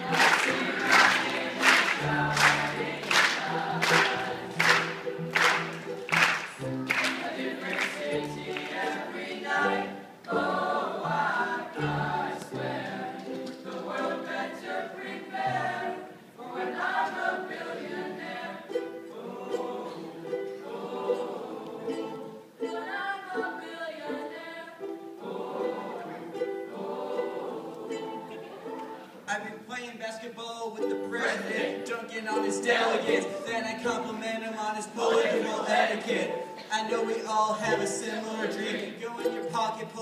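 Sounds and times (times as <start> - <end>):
male choir singing in harmony: 0.0 - 5.6, 6.8 - 29.0, 30.8 - 40.0.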